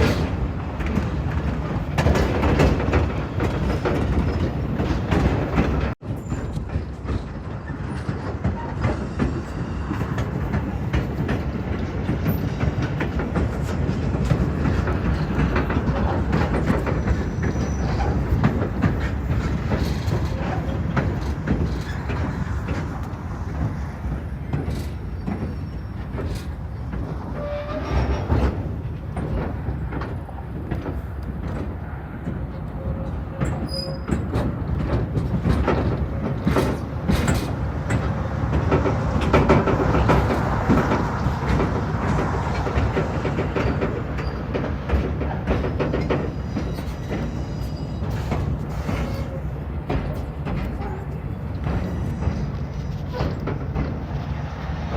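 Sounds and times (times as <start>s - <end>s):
train rumbling on track: 0.0s - 54.9s
wheels clicking over rail joints: 0.0s - 54.9s.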